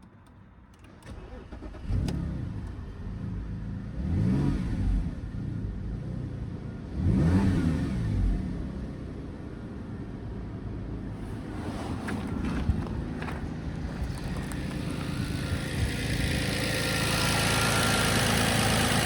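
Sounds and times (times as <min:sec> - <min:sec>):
car engine starting and revving: 0:00.8 - 0:09.1, 0:11.0 - 0:19.0.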